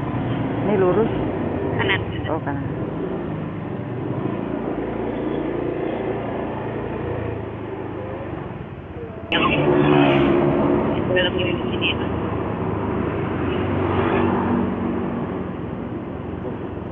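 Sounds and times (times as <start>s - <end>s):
road noise: 0.0s - 16.9s.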